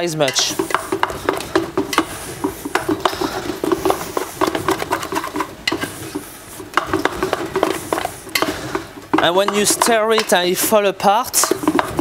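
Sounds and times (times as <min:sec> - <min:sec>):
wooden spoon scraping a pot: 0:00.0 - 0:12.0.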